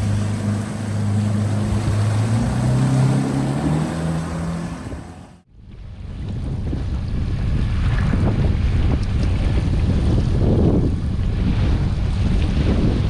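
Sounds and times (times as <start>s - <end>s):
outboard motor running: 0.0s - 13.0s
water noise: 0.0s - 13.0s
wind: 0.0s - 13.0s.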